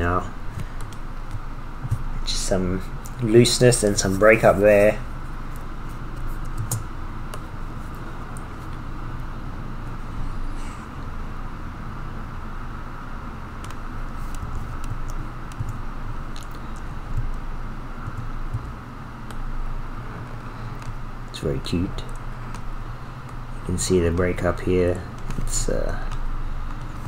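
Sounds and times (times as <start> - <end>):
electrical hum and hiss: 0.0 - 27.0.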